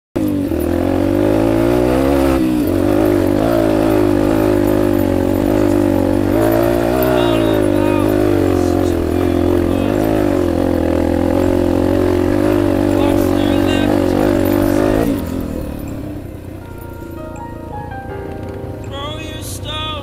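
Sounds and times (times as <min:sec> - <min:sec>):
dirt bike engine revving: 0:00.2 - 0:17.3.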